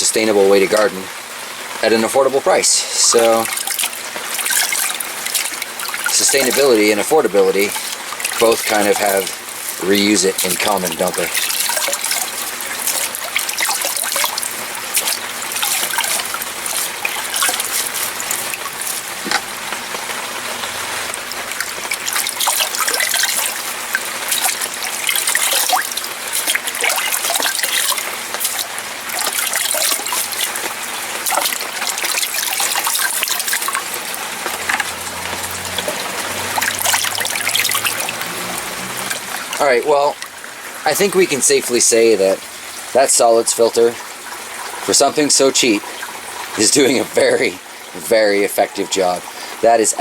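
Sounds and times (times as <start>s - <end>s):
water trickling and splashing: 0.0s - 50.0s.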